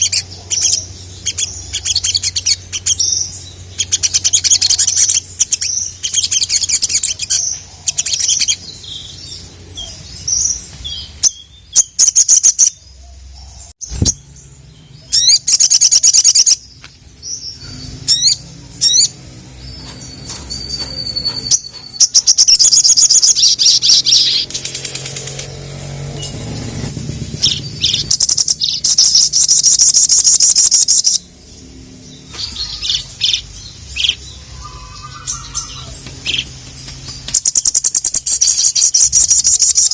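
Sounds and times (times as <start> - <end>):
bird singing high-pitched trills: 0.0 - 12.9, 13.8 - 39.9.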